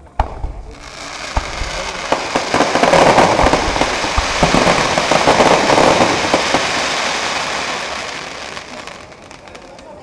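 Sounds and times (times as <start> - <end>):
firework shells booming: 0.0 - 9.9
fireworks crackling: 0.0 - 10.0.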